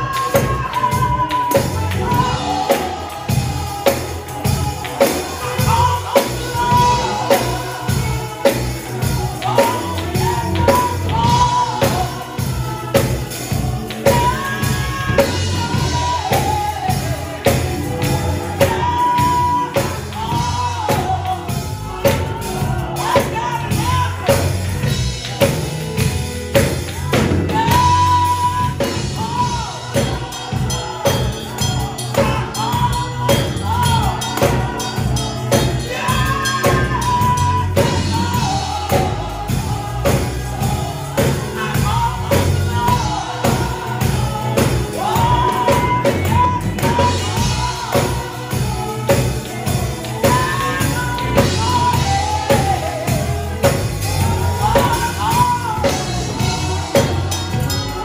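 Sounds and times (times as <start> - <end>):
gospel singing: 0.0 - 58.0
organ: 0.0 - 58.0
steady percussive beat: 0.0 - 58.0.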